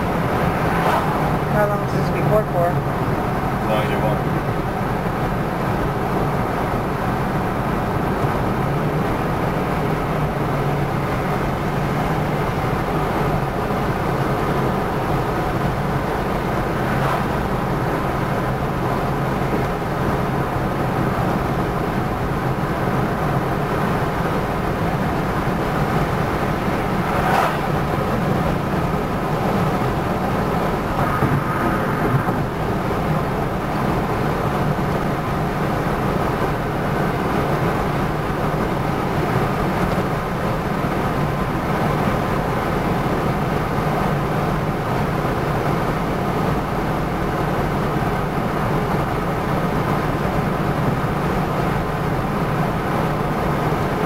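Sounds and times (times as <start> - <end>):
car interior engine and road noise: 0.0 - 54.0.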